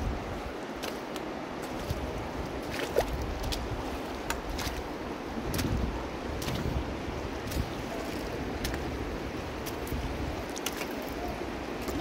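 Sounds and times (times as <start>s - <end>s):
river water over rocks: 0.0s - 12.0s.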